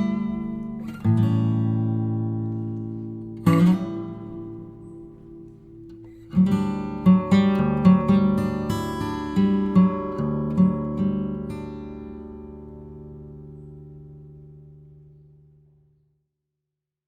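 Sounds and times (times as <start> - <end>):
acoustic guitar strumming: 0.0 - 15.7.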